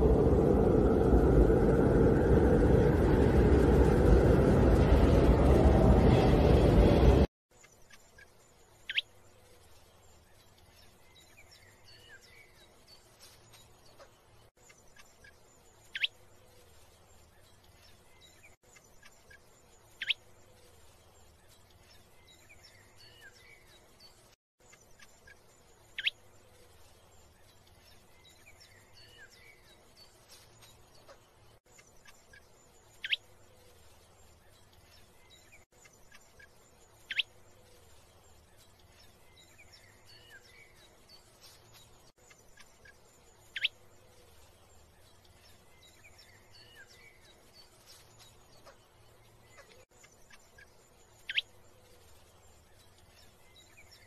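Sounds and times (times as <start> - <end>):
faint bird chirps: 7.5 - 54.0.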